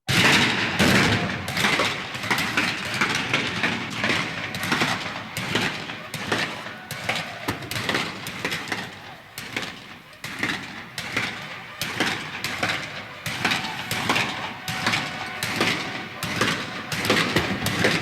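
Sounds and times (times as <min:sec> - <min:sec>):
battle din: 0:00.1 - 0:18.0
scattered gunshots: 0:00.1 - 0:18.0.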